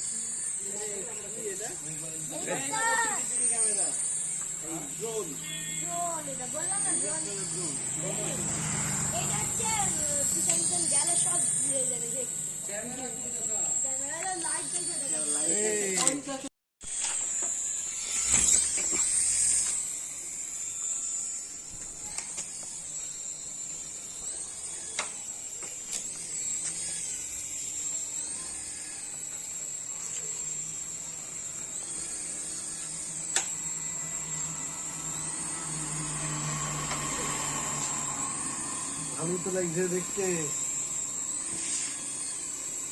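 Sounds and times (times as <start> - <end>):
toy aircraft motors whining: 0.0 - 42.9.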